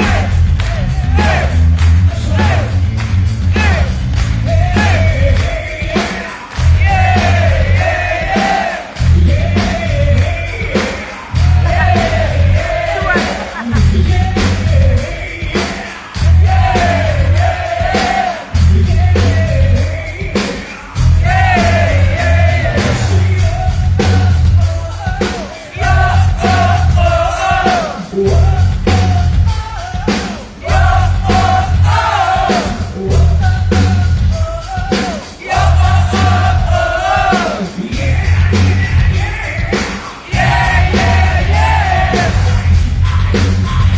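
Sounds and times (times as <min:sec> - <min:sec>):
live hard rock band: 0:00.0 - 0:43.9
man singing: 0:00.0 - 0:43.9.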